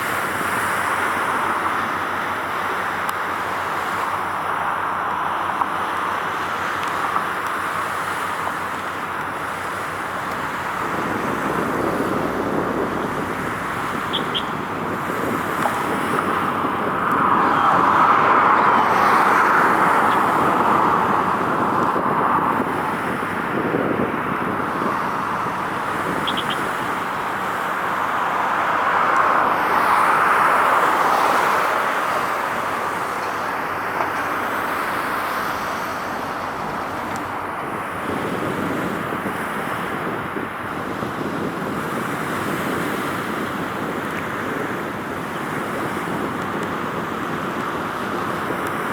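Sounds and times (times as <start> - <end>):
road traffic: 0.0 - 48.9
vehicles passing by: 0.0 - 48.9.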